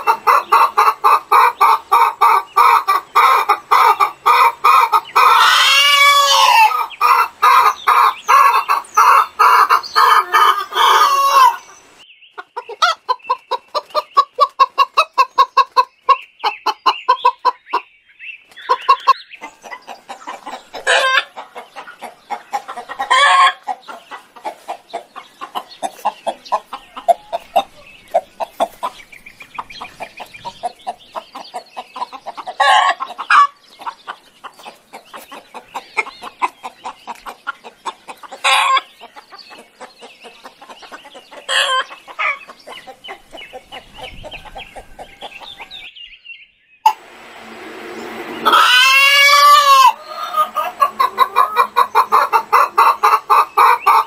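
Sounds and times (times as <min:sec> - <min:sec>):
fowl clucking and cackling: 0:00.0 - 0:17.9, 0:18.6 - 0:45.9, 0:48.4 - 0:54.0.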